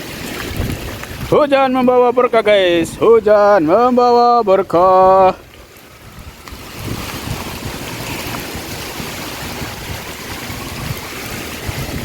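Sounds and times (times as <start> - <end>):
heavy rain pouring: 0.0 - 12.0
wind gusts on microphone: 0.0 - 12.0.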